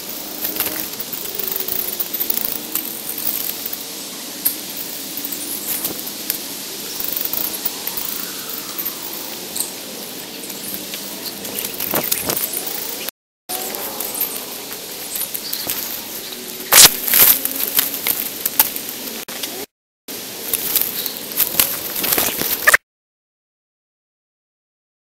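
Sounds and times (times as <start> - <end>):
steady hiss: 0.0 - 22.7.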